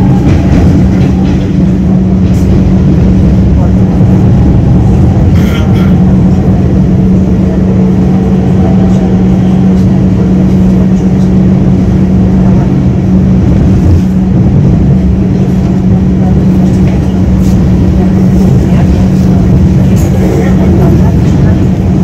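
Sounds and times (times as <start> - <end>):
train rumbling through tunnel: 0.0 - 22.0.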